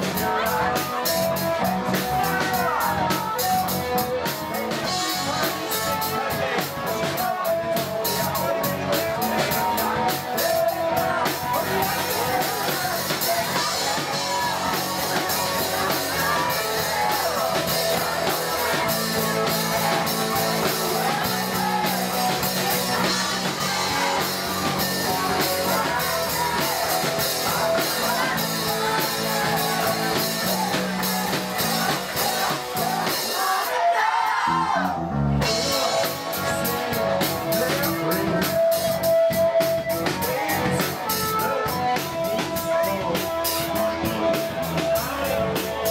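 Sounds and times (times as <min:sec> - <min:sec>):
bass guitar: 0:00.0 - 0:45.9
drum kit: 0:00.0 - 0:45.9
electric guitars: 0:00.0 - 0:45.9
lead singer singing: 0:00.0 - 0:45.9.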